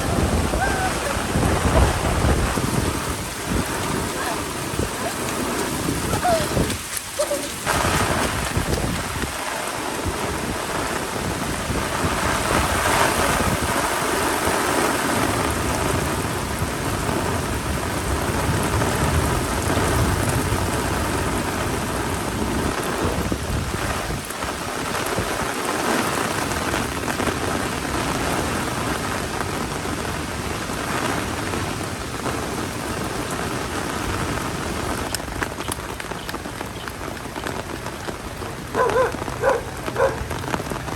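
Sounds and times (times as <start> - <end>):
heavy rain pouring: 0.0 - 40.9
thunder rumbling: 0.0 - 40.9.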